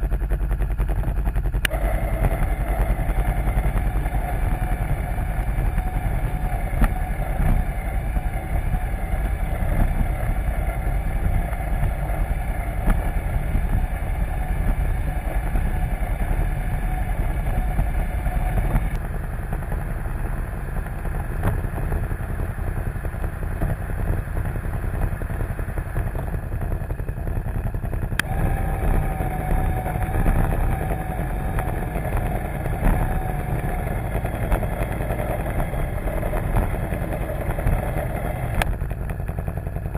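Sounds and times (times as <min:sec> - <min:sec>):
atv engine idling: 0:00.0 - 0:39.9.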